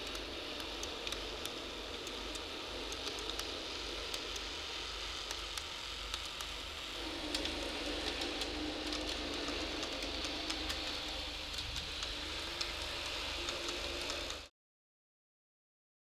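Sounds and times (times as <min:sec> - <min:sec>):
faint motor hum: 0:00.0 - 0:14.5
model train wheels rolling: 0:00.0 - 0:14.5.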